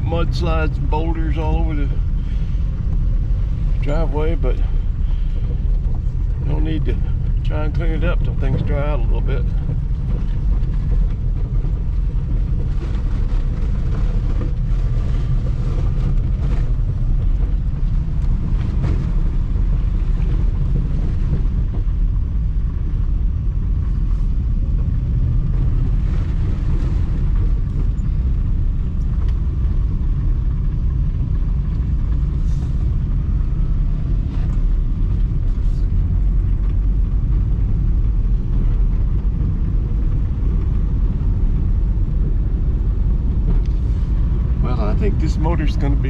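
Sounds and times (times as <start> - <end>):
car engine and road rumble: 0.0 - 46.0.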